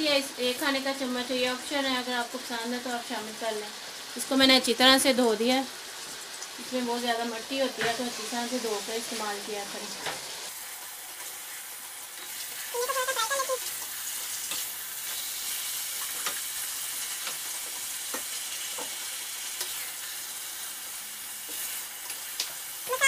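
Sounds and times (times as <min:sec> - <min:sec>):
meat sizzling in oil: 0:00.0 - 0:23.0.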